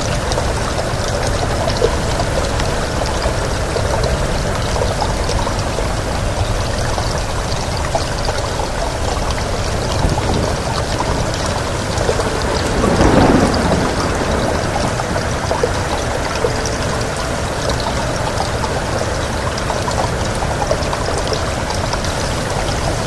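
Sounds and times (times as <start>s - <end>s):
steady rain: 0.0s - 23.0s
wind: 0.0s - 23.0s.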